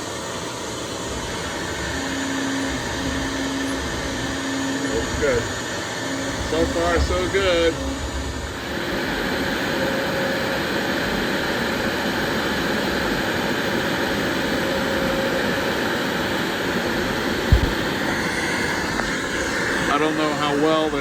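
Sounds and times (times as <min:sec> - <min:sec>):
faint hum: 0:00.0 - 0:21.0
router carving wood: 0:00.0 - 0:21.0.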